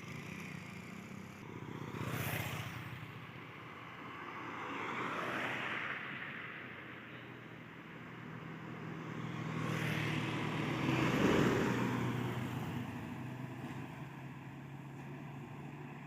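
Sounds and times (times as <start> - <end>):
vehicles passing on road: 0.0 - 16.0.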